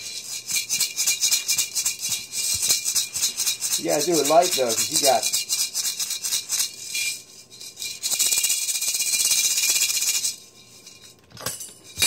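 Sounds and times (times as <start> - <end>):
maracas shaking: 0.0 - 12.0.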